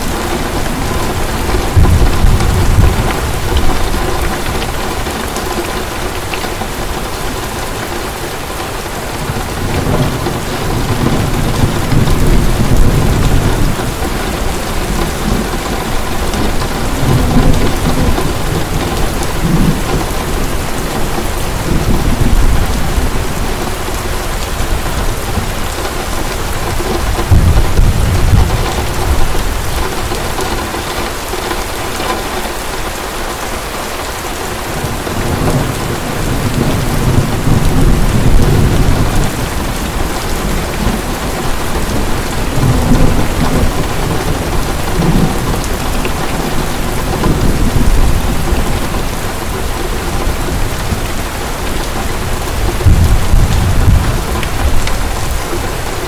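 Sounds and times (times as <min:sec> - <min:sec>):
low rolls of thunder: 0:00.0 - 0:05.9, 0:09.1 - 0:30.6, 0:34.8 - 0:56.0
heavy rain falling: 0:00.0 - 0:56.0.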